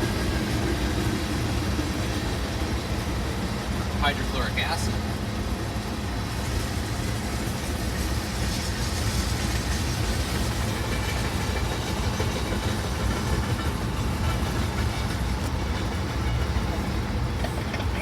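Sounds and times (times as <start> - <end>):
freight train rolling on rails: 0.0 - 18.0.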